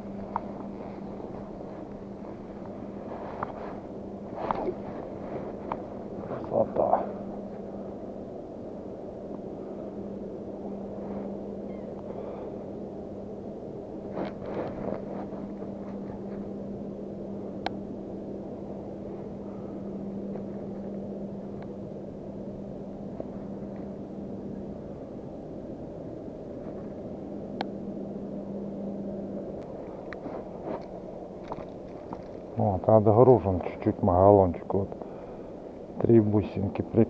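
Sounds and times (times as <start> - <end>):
rushing background noise: 0.0 - 37.0.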